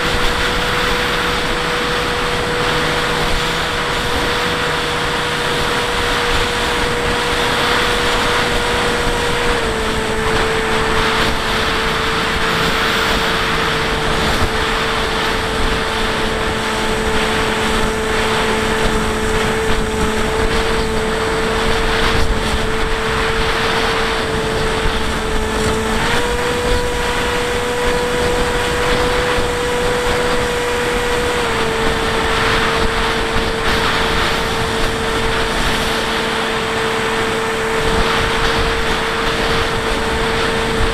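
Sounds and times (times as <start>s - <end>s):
electric motor and propeller whining: 0.0s - 40.9s
rushing wind: 0.0s - 40.9s.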